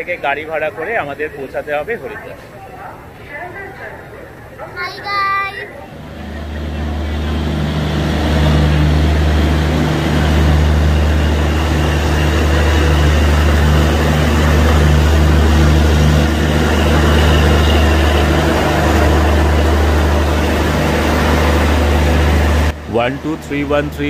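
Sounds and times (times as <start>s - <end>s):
diesel generators humming: 0.0s - 24.0s.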